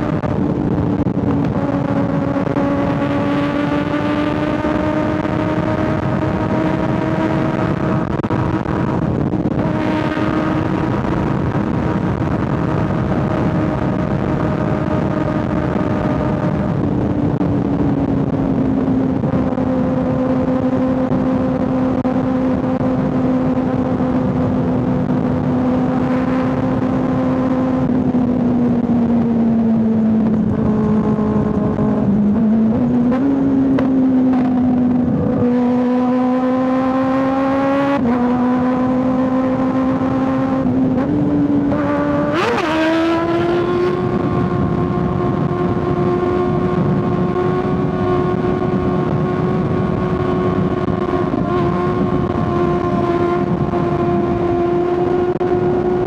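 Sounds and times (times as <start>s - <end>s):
motorcycle engine at high revs: 0.0s - 56.0s
wind rush: 0.0s - 56.0s.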